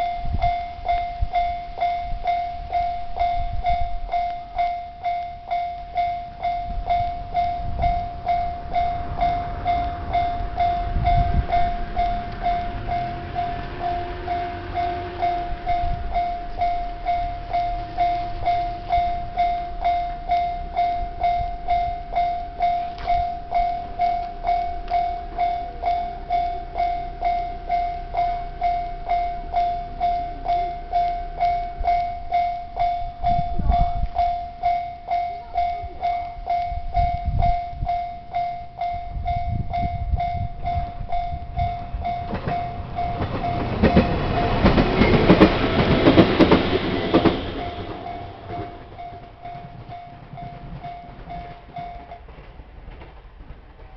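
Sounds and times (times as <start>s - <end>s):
level crossing alarm ringing: 0.0s - 52.2s
train rumble: 0.0s - 53.9s.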